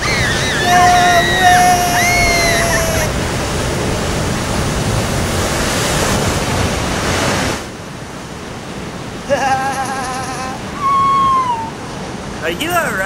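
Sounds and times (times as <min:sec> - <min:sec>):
ocean wave crashing: 0:00.0 - 0:13.0.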